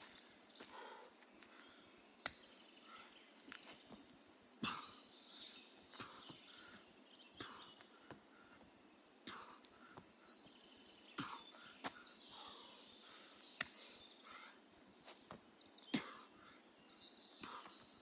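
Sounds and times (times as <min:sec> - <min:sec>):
faint bird chirps: 0:00.0 - 0:18.0
forest ambience: 0:00.0 - 0:18.0.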